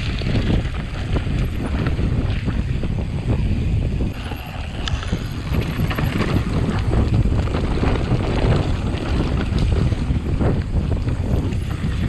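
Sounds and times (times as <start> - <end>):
mountain bike rattling on trail: 0.0 - 12.0
wind buffeting microphone: 0.0 - 12.0.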